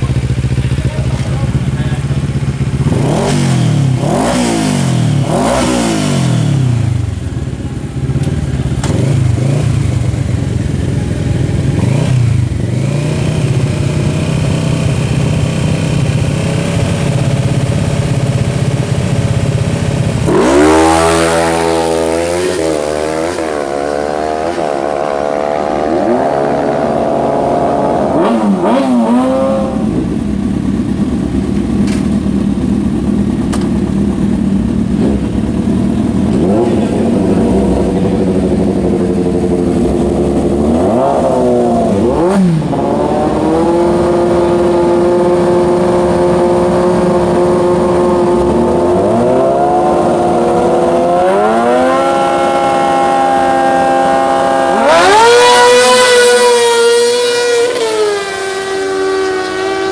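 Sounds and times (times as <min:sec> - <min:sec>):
motorcycle accelerating through gears: 0:00.0 - 0:59.9
motorcycle engines revving: 0:00.0 - 0:59.9.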